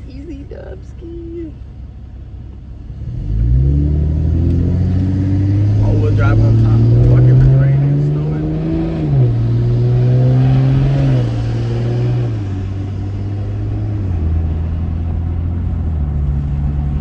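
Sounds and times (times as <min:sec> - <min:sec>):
car engine drone while driving: 0:00.0 - 0:17.0.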